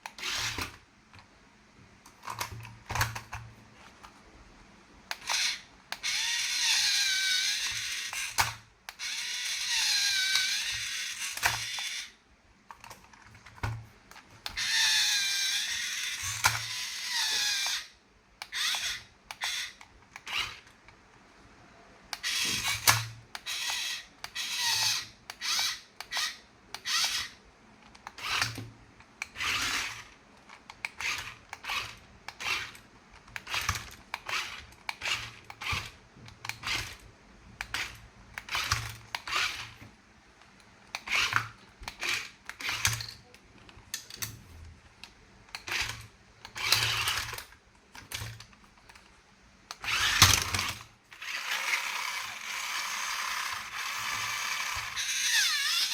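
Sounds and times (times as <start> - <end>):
toy mechanism whirring: 0.0 - 0.8, 2.1 - 4.2, 5.1 - 20.8, 22.1 - 39.9, 40.5 - 55.9.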